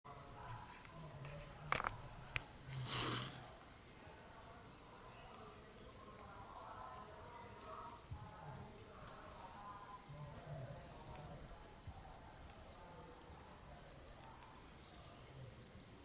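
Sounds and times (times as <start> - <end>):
insects buzzing: 0.1 - 16.0.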